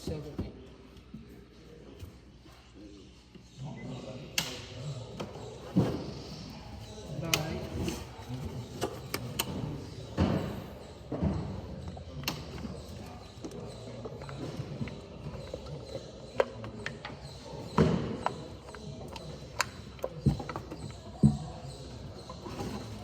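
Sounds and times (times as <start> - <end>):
murmur of voices: 0.0 - 23.0.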